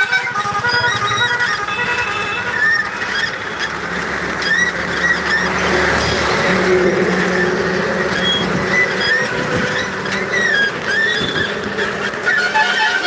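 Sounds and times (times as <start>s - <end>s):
bus passing: 0.0s - 13.0s
vehicle engines running: 0.0s - 13.0s
short high squeals: 0.7s - 6.4s, 7.4s - 13.0s.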